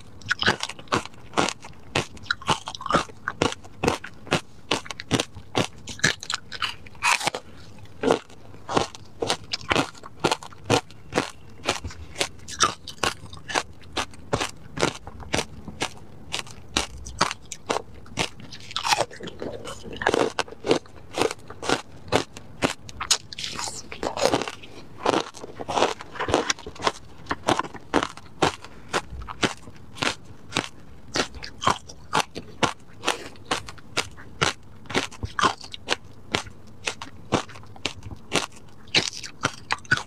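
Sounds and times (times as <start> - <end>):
ice being crunched and chewed: 0.0 - 40.0.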